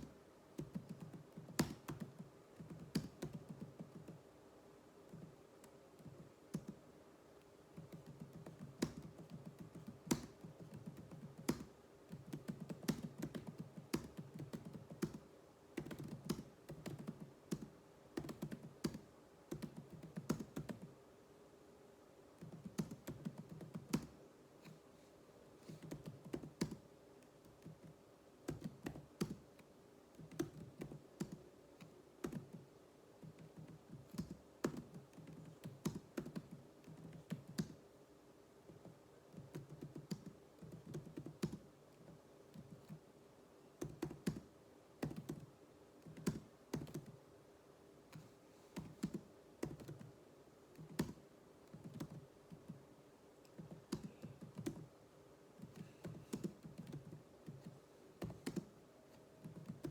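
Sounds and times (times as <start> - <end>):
typing on computer keyboard: 0.0 - 4.2, 5.1 - 6.8, 7.7 - 20.9, 22.4 - 24.8, 25.7 - 37.8, 38.7 - 43.0, 43.8 - 47.2, 48.1 - 52.8, 53.4 - 54.9, 55.6 - 58.7, 59.4 - 59.9.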